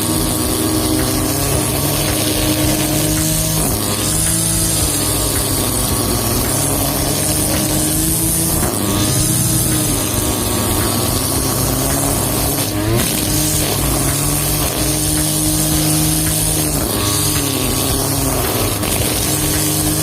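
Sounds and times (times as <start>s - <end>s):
brush cutter engine running: 0.0s - 20.0s.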